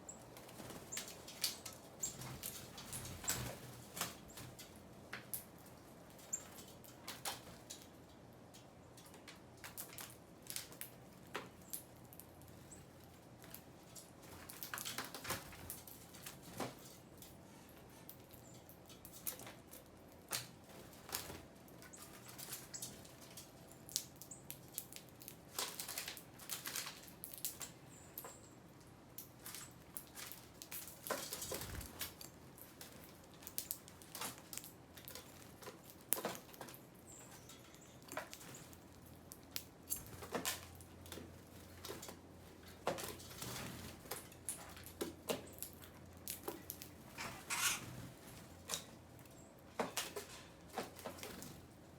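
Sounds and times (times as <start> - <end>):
birds pecking at seed: 0.1 - 51.9.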